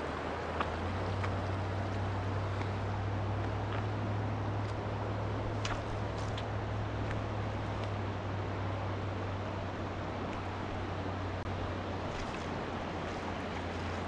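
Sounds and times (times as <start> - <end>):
low steady rumble: 0.0 - 14.0
stream water rushing over rocks: 0.0 - 14.0.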